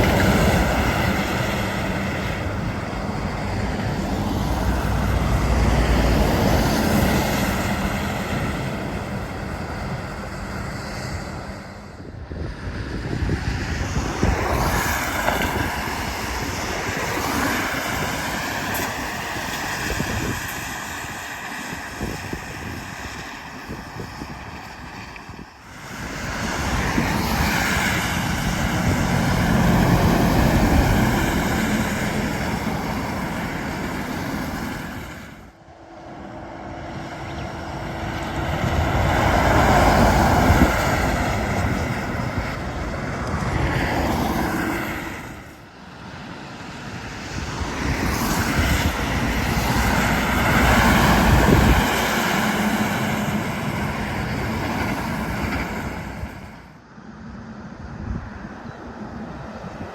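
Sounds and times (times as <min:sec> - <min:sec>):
heavy trucks passing: 0:00.0 - 0:59.9.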